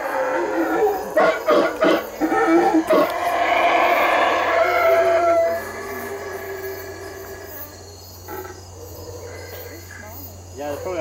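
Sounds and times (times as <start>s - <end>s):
high insect chirping: 0.0s - 11.0s
howler monkeys howling: 0.0s - 11.0s.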